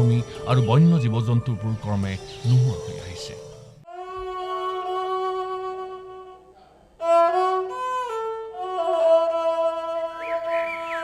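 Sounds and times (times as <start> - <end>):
slow violin melody: 0.0 - 11.0.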